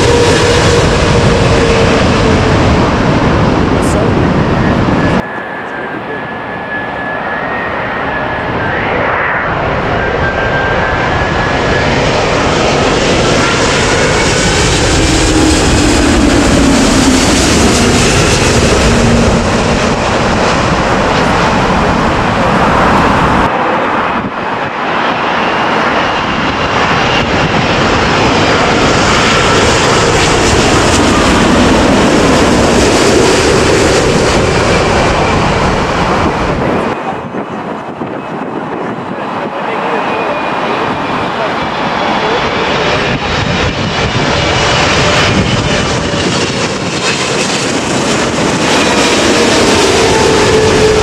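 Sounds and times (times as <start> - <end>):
falling jet engine whine: 0.0 - 51.0
jet airliner passing overhead: 0.0 - 51.0.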